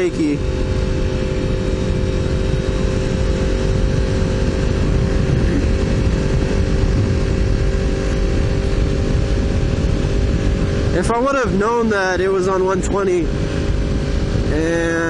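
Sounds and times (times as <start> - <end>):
motorcycle engine cruising: 0.0 - 15.0
wind rush: 0.0 - 15.0.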